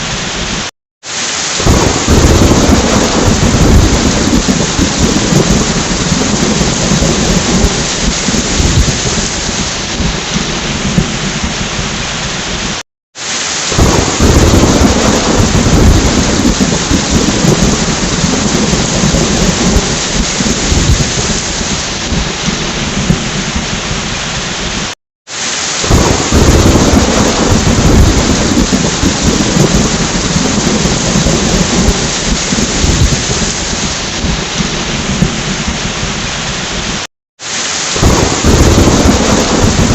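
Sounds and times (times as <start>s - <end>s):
heavy rain: 0.0s - 39.9s
thunder rumbling: 1.6s - 12.8s, 13.7s - 24.9s, 25.8s - 37.1s, 37.9s - 39.9s.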